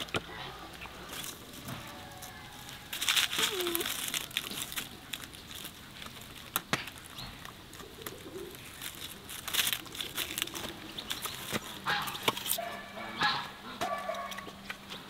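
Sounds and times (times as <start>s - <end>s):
birds calling: 0.0s - 15.0s
dog crunching corn cobs: 0.0s - 15.0s.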